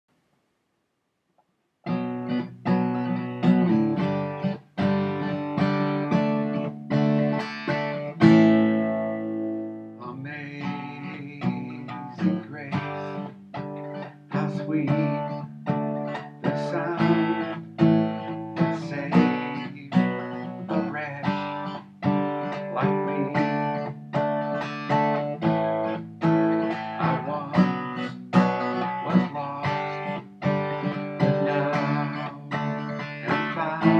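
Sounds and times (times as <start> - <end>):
acoustic guitar fingerpicking: 1.8 - 33.9.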